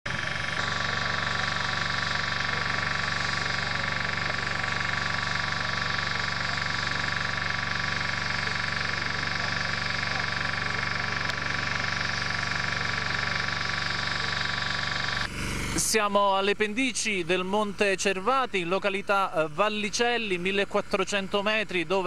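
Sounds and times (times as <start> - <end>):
helicopter turbine and rotor running: 0.1 - 22.0.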